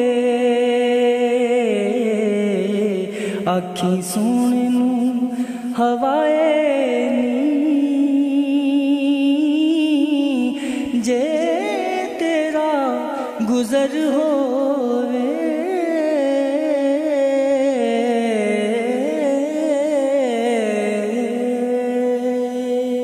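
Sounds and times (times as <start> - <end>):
person singing devotional song: 0.0 - 23.0.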